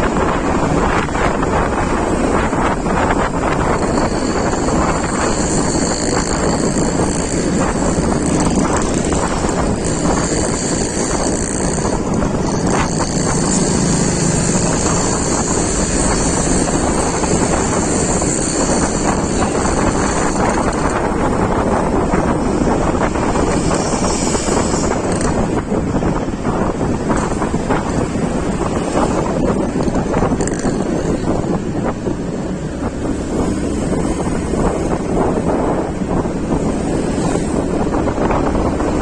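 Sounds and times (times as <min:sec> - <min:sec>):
vehicle running and road noise: 0:00.0 - 0:39.0
wind rushing over microphone: 0:00.0 - 0:39.0.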